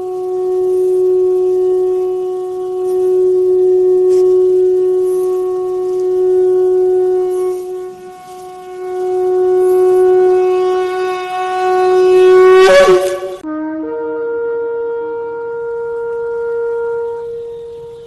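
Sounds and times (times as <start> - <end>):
shofar blasts: 0.0 - 18.0.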